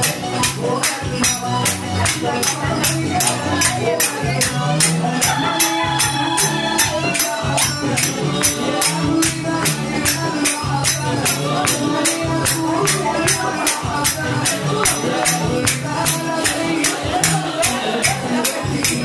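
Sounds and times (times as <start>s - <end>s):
music with singing: 0.0s - 19.0s.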